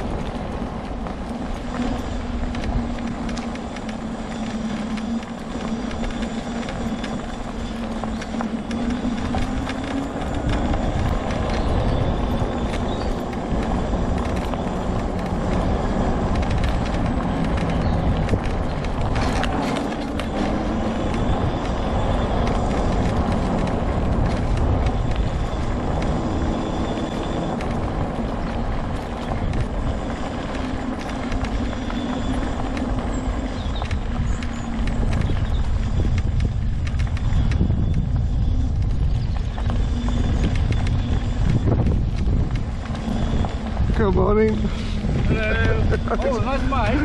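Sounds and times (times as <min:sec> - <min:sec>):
low rumble: 0:00.0 - 0:47.0
mobility scooter motor hum: 0:00.0 - 0:47.0.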